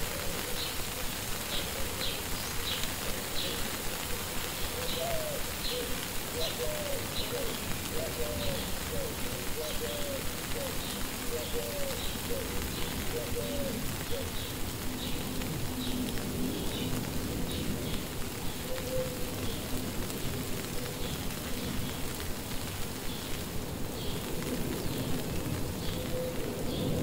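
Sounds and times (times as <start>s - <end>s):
rain falling on foliage: 0.0s - 27.0s.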